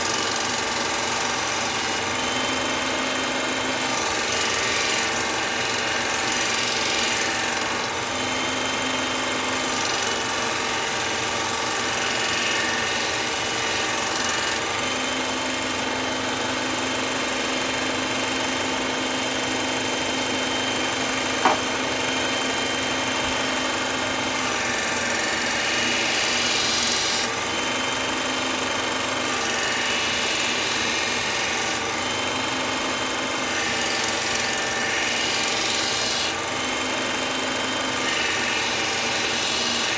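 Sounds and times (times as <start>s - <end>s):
knife-sharpening machine grinding blade: 0.0s - 39.9s.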